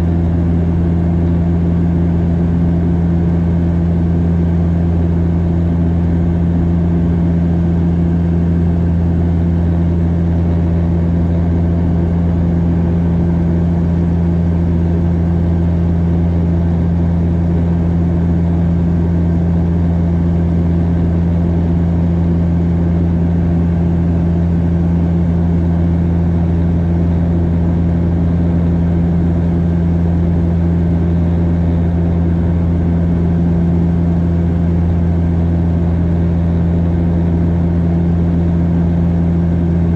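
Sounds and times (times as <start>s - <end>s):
propeller plane cabin drone: 0.0s - 39.9s.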